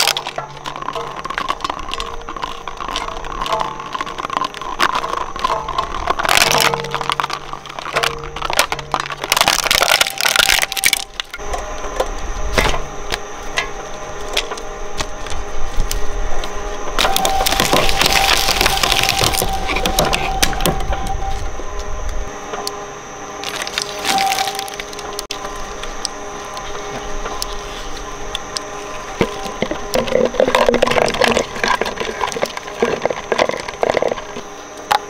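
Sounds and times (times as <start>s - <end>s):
shredder crunching plastic: 0.0s - 21.5s, 23.4s - 35.0s
shredder running hum: 0.0s - 35.0s.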